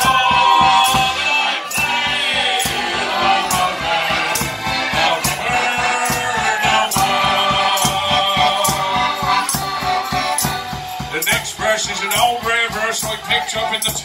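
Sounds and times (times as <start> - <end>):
accordion playing lively tune: 0.0 - 14.0
bass beat: 0.0 - 14.0.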